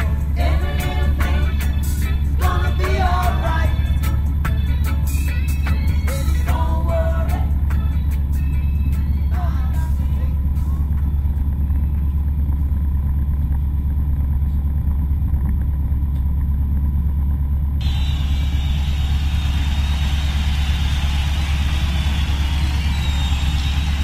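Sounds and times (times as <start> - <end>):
aircraft engine and propeller: 0.0 - 6.8, 7.4 - 24.0.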